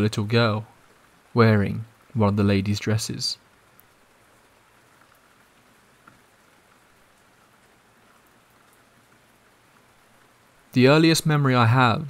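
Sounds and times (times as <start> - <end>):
raindrop ticks: 0.0 - 11.5
steady rain hiss: 0.0 - 12.0.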